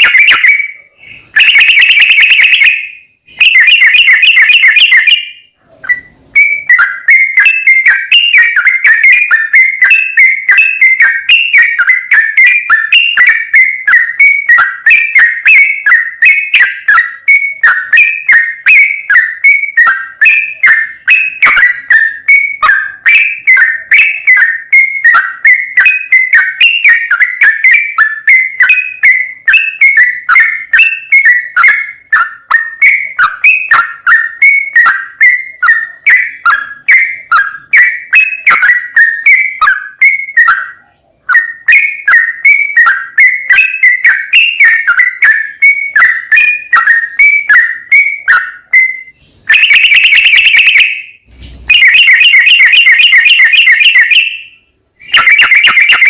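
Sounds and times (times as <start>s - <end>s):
bird whistled chirping song: 0.0s - 56.0s.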